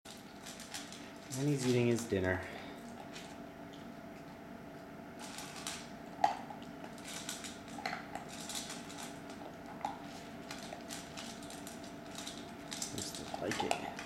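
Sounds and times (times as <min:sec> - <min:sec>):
puppy crunching dry food: 0:00.1 - 0:04.4, 0:05.2 - 0:14.0.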